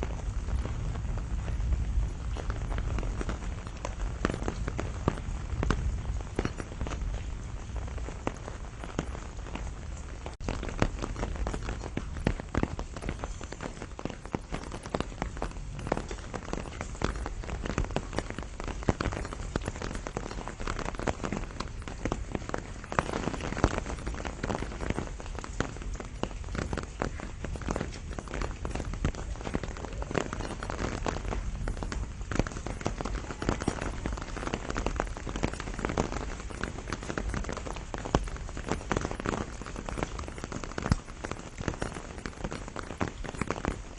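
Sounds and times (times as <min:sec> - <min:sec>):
rain falling on a tree: 0:00.0 - 0:43.9.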